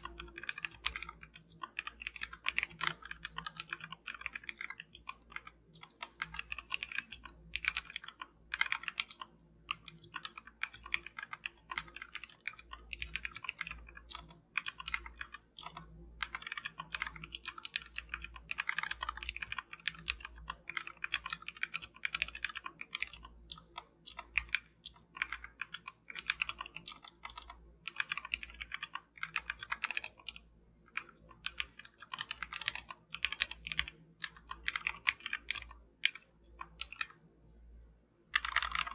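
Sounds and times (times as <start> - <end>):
mechanical keyboard typing: 0.0 - 37.3, 38.3 - 38.9.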